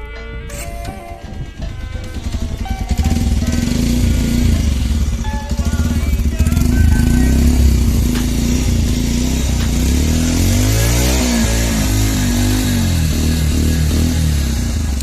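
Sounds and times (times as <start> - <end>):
music playing: 0.0 - 14.2
motorcycle engine running: 0.0 - 15.0.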